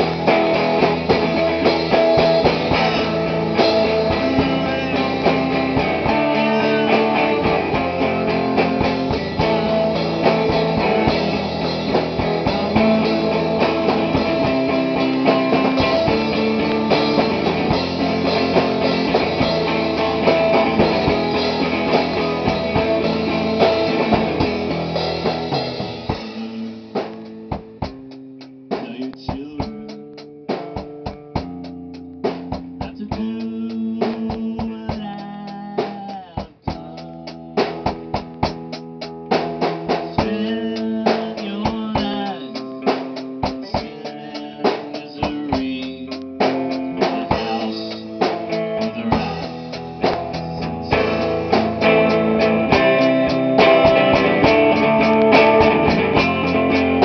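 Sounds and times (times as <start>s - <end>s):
drum kit hits: 0.0s - 57.0s
held guitar notes: 0.0s - 57.0s
rock band playing: 0.0s - 57.0s.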